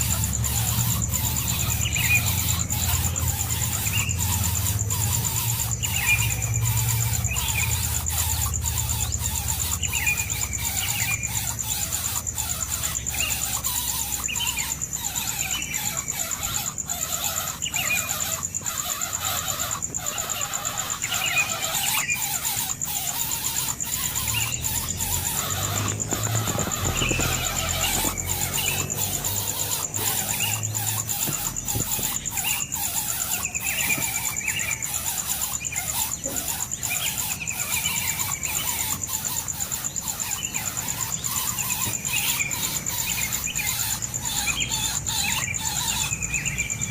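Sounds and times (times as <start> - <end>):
birds chirping: 0.0 - 46.9
high insect-like drone: 0.0 - 46.9.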